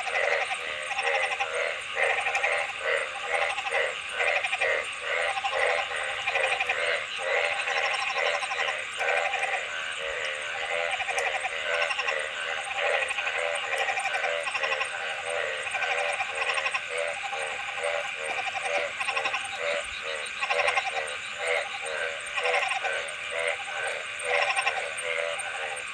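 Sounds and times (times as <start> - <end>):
frogs croaking in chorus: 0.0 - 25.9.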